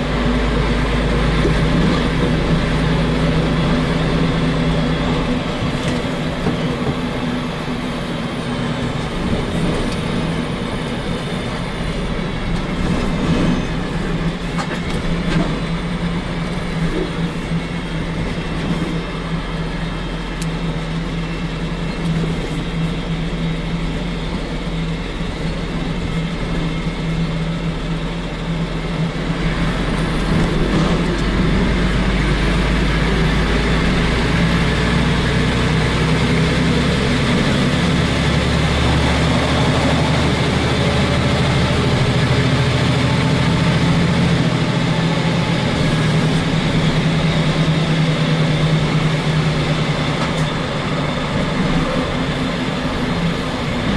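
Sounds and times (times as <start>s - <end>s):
road and tyre noise: 0.0s - 53.9s
truck diesel engine running: 0.0s - 53.9s.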